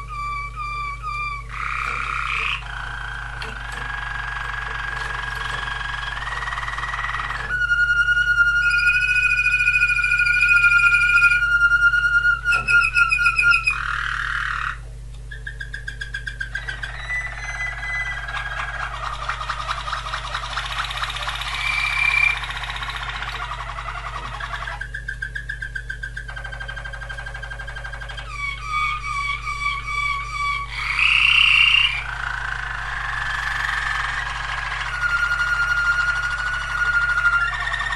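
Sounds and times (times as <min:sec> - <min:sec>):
canary singing: 0:00.0 - 0:37.9.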